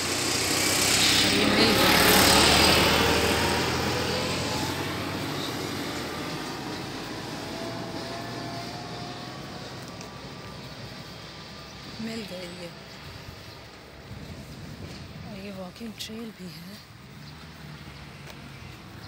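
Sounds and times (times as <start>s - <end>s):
tractor engine driving past: 0.0s - 19.0s.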